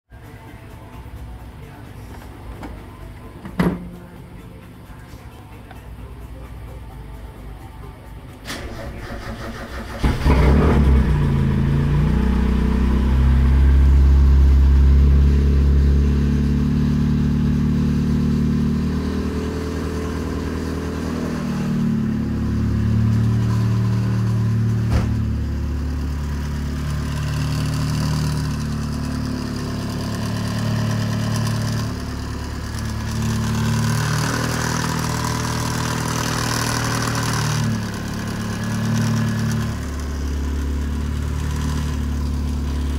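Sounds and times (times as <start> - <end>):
car engine cranking and running: 7.6 - 42.9.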